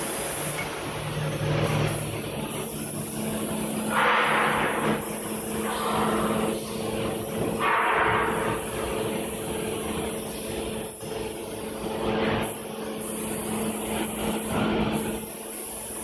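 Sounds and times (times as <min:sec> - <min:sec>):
packing machine humming: 0:00.0 - 0:16.0.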